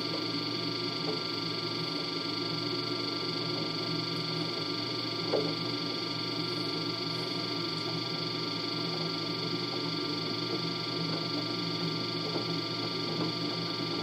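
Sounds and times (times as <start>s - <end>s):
washer dryer humming and whining: 0.0s - 14.0s.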